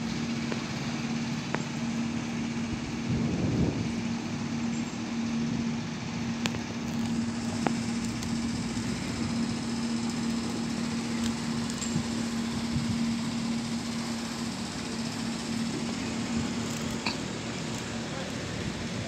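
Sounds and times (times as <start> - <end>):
boat engine humming: 0.0 - 19.0
wind: 0.0 - 19.0.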